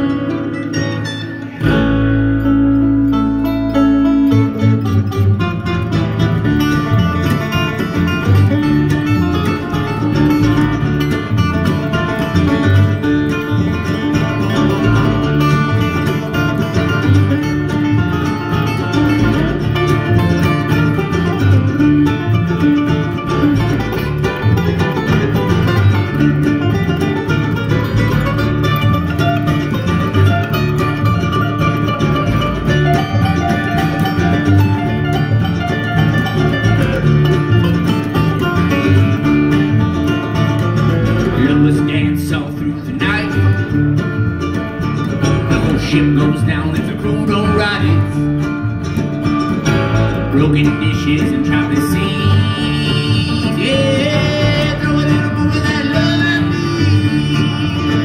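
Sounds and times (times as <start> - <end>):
banjo: 0.0 - 58.0
picked acoustic guitar: 0.0 - 58.0
pulsing bass line: 0.0 - 58.0.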